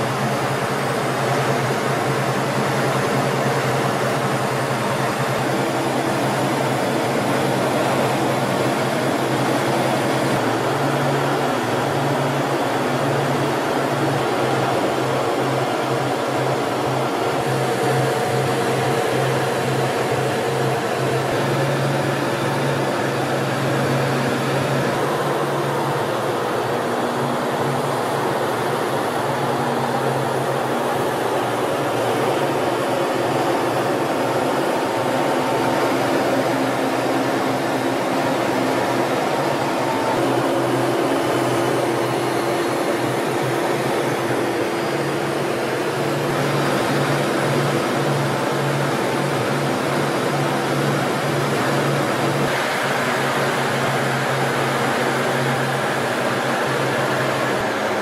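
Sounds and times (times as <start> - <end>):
jet engine and airflow rush: 0.0 - 58.0
steady hum tones: 0.0 - 58.0.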